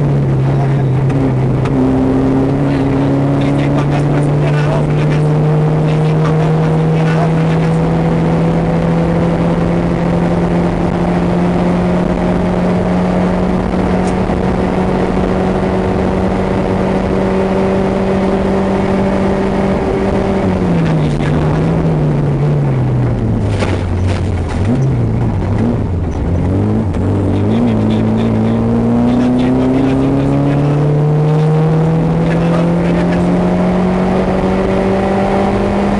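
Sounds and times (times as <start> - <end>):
car engine cruising: 0.0 - 35.9
tyres on a gravel road: 0.0 - 35.9.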